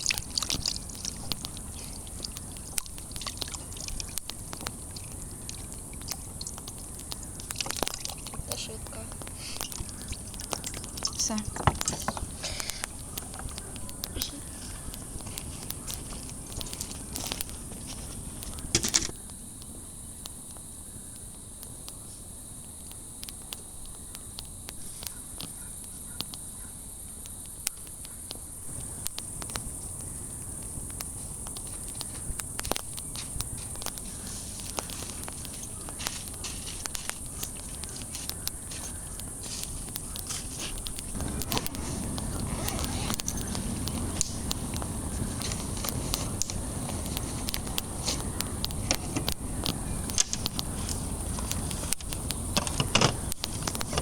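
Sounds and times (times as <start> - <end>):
sharp crackles and clicks: 0.0 - 54.0
steady high hiss: 0.0 - 54.0.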